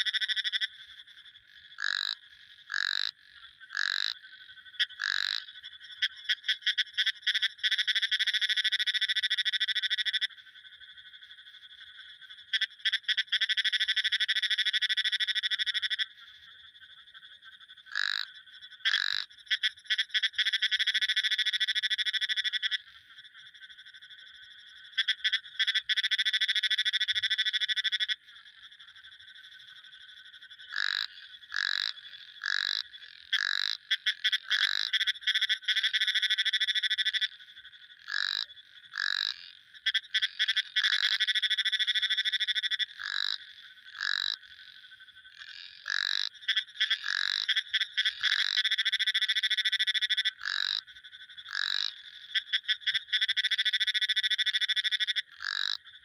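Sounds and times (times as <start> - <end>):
frogs short quick calls: 0.0 - 56.0
frogs trilling: 0.0 - 56.0.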